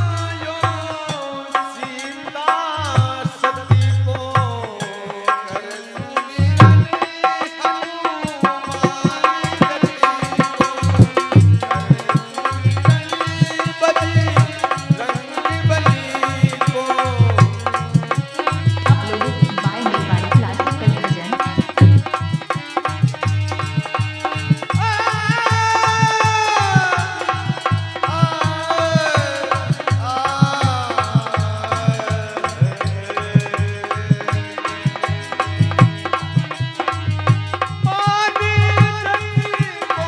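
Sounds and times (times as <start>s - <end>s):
man singing: 0.0s - 22.8s, 23.6s - 40.0s
dholak drum beating: 0.0s - 40.0s
harmonium melody: 0.0s - 40.0s.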